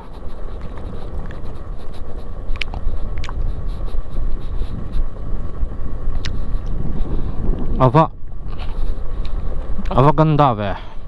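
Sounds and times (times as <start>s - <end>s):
wind on microphone: 0.0s - 10.0s
motorcycle engine rumble: 0.0s - 11.0s.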